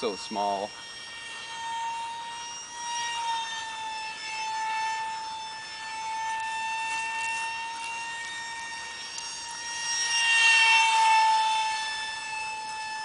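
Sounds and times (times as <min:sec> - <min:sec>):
electric ducted fan whining: 0:00.0 - 0:13.0.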